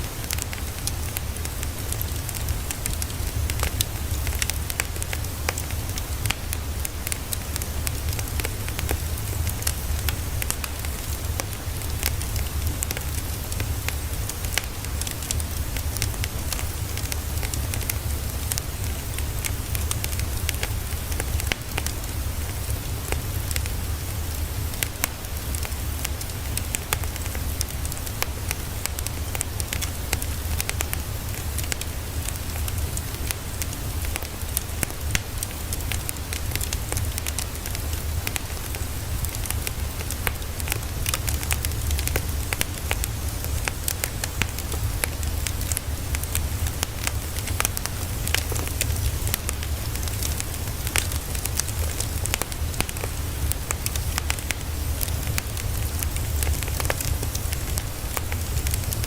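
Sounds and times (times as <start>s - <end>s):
dense crackle of sharp clicks: 0.0s - 59.0s.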